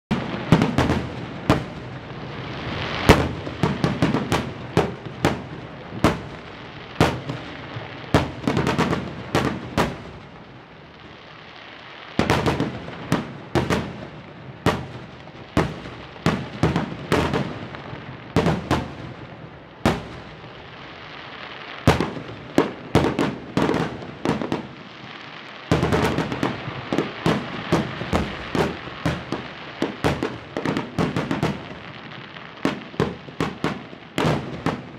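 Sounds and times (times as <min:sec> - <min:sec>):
firework shells bursting with bangs: 0:00.1 - 0:10.4, 0:12.2 - 0:20.8, 0:21.6 - 0:24.9, 0:25.7 - 0:34.9.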